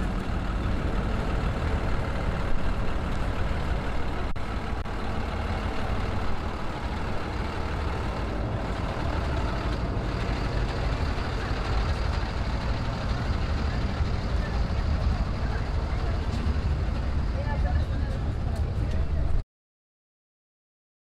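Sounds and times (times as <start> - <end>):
vehicle rumble: 0.0 - 19.4.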